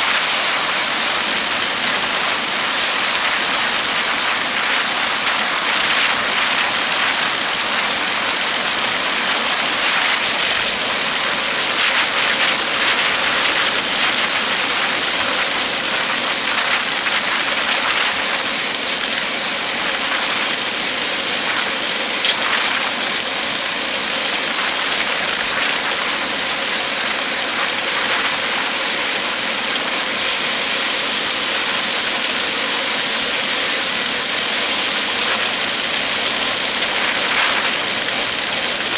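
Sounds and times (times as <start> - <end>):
wind and road noise hiss: 0.0 - 38.9.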